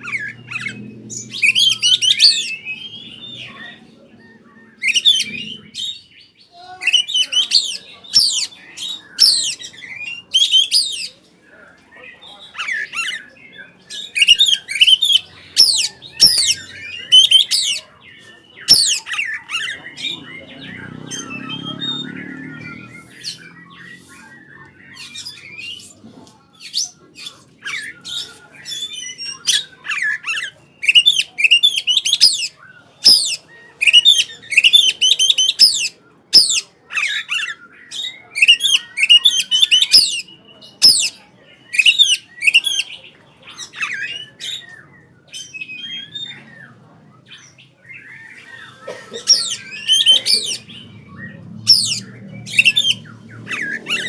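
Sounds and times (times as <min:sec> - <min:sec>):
bird singing chattering phrases: 0:00.0 - 0:54.0.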